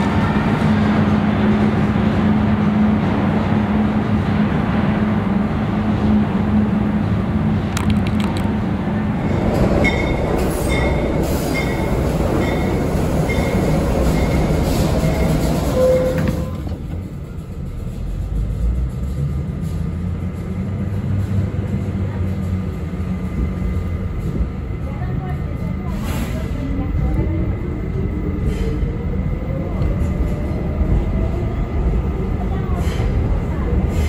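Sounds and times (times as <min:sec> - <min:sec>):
train rumbling past: 0:00.0 - 0:34.0
steel wheels on rail: 0:05.7 - 0:34.0.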